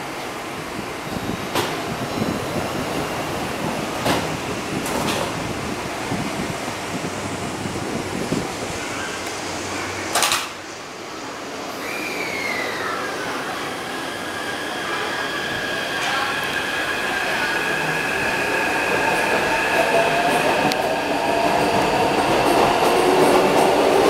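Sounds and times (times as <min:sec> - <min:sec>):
ventilation and train hum: 0:00.0 - 0:24.0.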